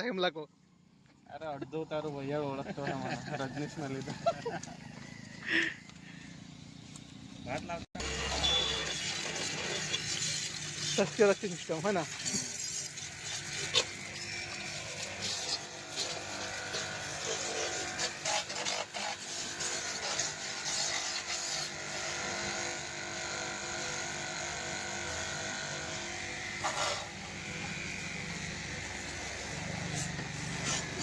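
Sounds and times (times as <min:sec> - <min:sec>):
small motor humming: 0:02.7 - 0:31.0.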